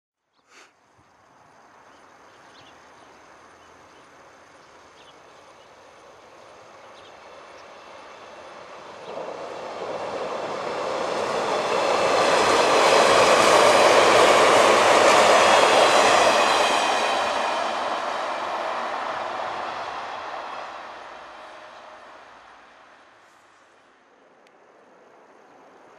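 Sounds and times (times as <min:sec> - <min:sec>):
electric train passing: 0:02.6 - 0:25.9.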